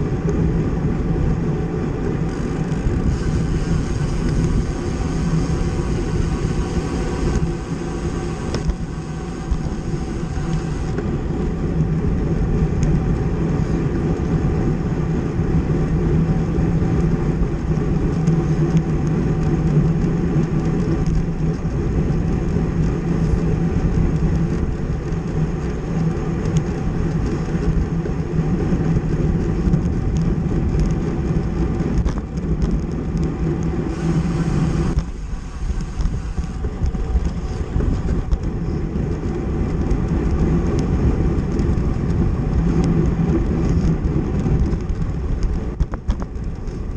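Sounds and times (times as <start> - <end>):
road and tyre noise: 0.0 - 46.9
steady low hum: 0.0 - 46.9
wind rushing over microphone: 0.0 - 46.9.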